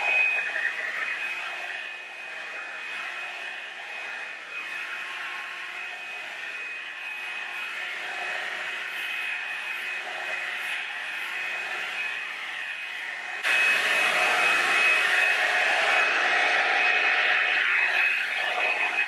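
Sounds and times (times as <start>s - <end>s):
hot-air brush dryer running: 0.0s - 19.0s.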